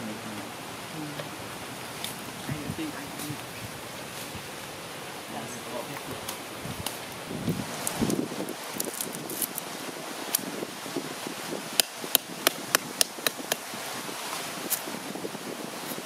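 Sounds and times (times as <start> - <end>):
steady background noise: 0.0 - 13.8.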